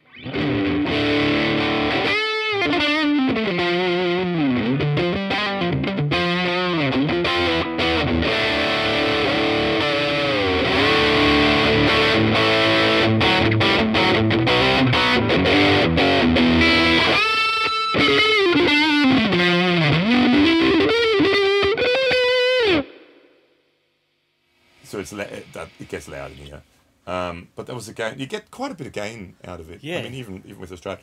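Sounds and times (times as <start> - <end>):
distorted electric guitar: 0.0 - 23.5, 24.5 - 26.6.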